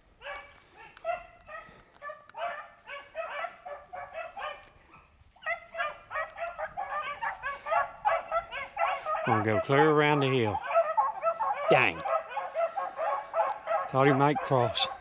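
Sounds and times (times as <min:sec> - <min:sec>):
dogs baying: 0:00.1 - 0:15.0.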